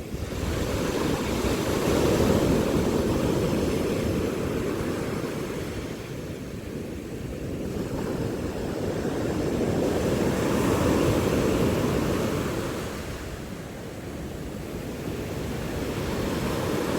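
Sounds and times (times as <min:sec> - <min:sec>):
sea waves breaking on shore: 0:00.0 - 0:16.9.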